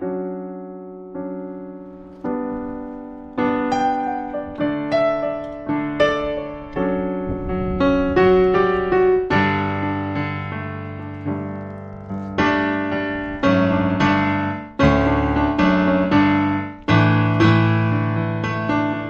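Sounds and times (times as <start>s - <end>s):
slow gentle piano: 0.0s - 19.0s.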